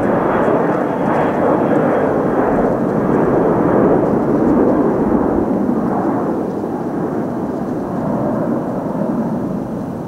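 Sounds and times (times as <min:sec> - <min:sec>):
jet engines roaring at takeoff: 0:00.0 - 0:10.0.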